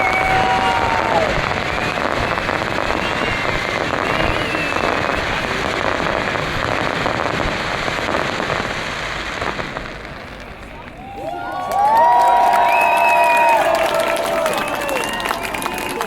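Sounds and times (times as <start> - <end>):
fireworks whistles: 0.0 - 11.2, 12.4 - 16.0
fireworks crackling: 0.0 - 16.0.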